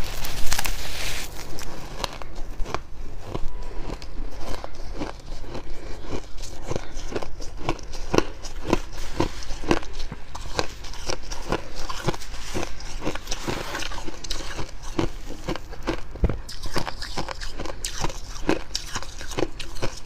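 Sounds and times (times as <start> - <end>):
crunchy chewing of frost: 0.0 - 20.0.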